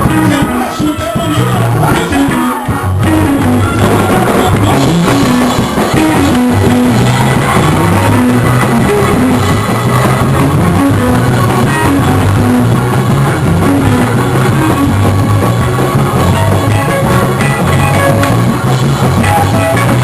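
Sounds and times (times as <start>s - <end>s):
live church band music: 0.0s - 20.0s.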